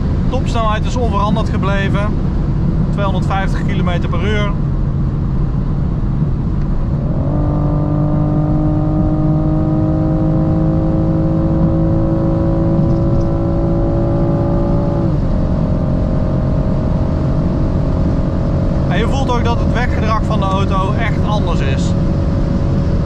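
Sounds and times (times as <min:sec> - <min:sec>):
car engine pulling: 0:00.0 - 0:23.0
road and wind noise: 0:00.0 - 0:23.0.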